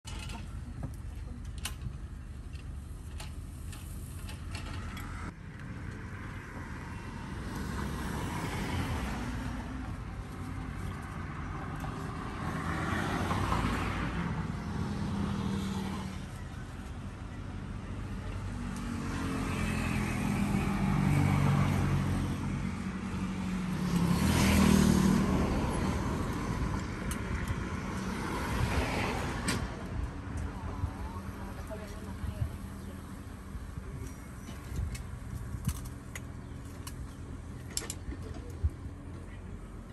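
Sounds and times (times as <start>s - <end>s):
street rumble: 0.0s - 39.9s
motor vehicles passing: 0.1s - 39.9s.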